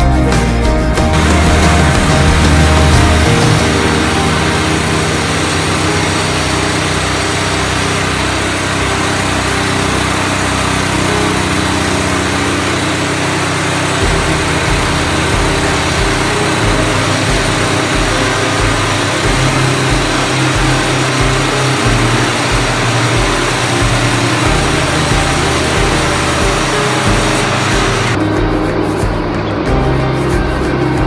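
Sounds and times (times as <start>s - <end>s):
sawmill gas engine running: 0.3s - 28.2s.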